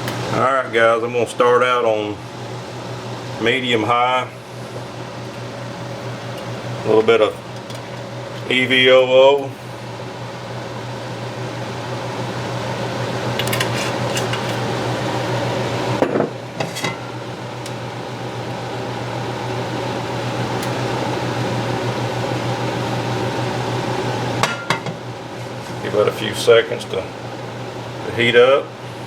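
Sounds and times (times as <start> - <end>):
kitchen fan whirring hum: 0.0 - 29.0.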